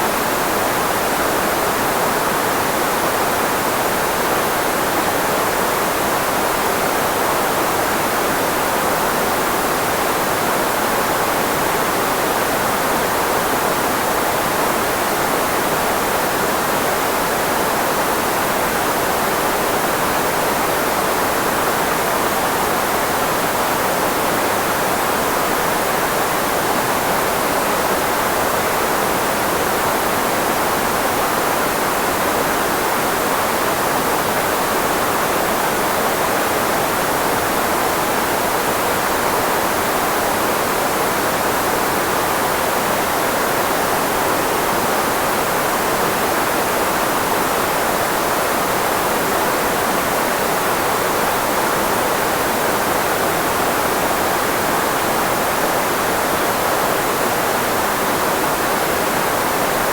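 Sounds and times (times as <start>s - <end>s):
filtered white noise hiss: 0.0s - 59.9s.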